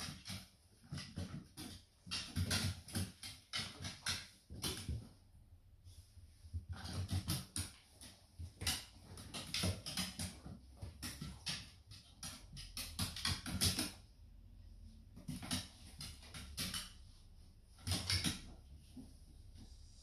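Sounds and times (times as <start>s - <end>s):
dog claws clicking on wooden floor: 0.0s - 5.1s, 6.5s - 14.4s, 15.2s - 19.1s.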